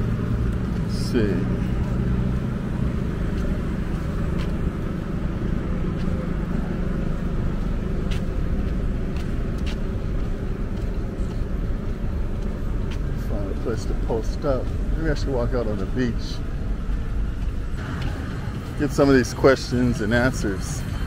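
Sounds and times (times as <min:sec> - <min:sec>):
engine hum: 0:00.0 - 0:21.0
road traffic: 0:00.0 - 0:21.0.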